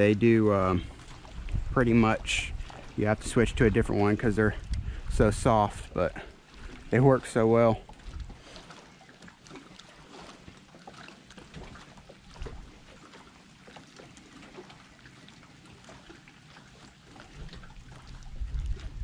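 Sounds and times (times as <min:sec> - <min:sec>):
light splashes: 0:00.0 - 0:19.0
small waves lapping: 0:00.0 - 0:19.0.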